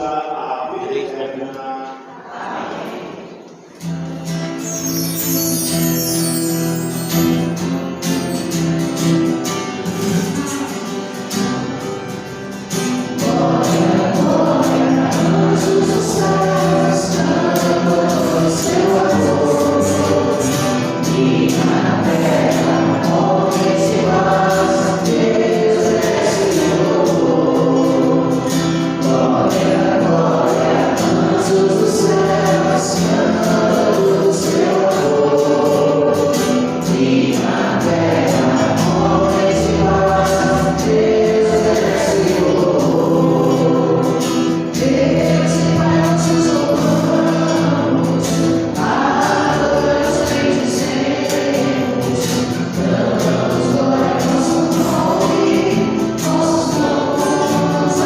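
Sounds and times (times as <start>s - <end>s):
choir singing: 0.0s - 58.0s
gospel instrumental accompaniment: 0.0s - 58.0s.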